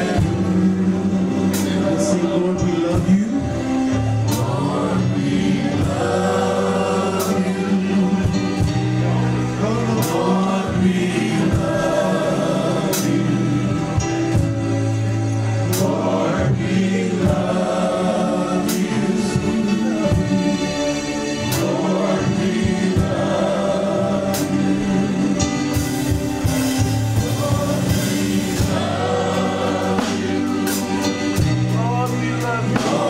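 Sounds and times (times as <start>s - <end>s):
gospel choir singing: 0.0s - 33.0s.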